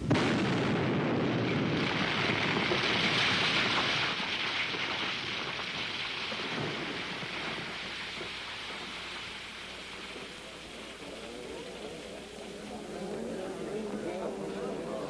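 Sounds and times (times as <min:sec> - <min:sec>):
bomb blast: 0:00.0 - 0:14.0.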